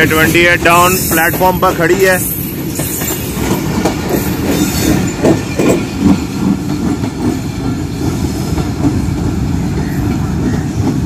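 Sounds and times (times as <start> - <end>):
train rumbling: 0.0 - 11.0
train wheels clattering over rail joints: 0.8 - 11.0.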